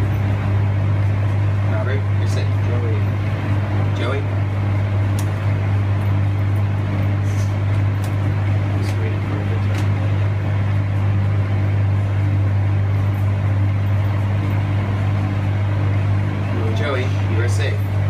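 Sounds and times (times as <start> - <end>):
loud low hum: 0.0 - 18.0.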